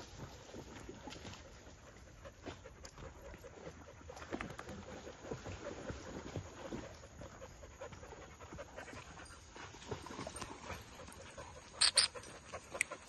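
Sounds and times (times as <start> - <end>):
dogs panting: 1.5 - 13.0.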